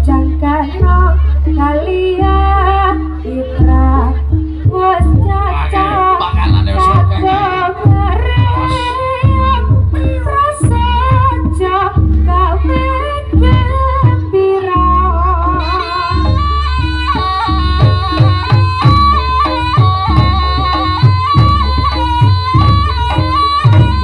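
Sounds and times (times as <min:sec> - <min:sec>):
amplified folk music accompaniment: 0:00.0 - 0:24.0
woman singing: 0:00.0 - 0:24.0.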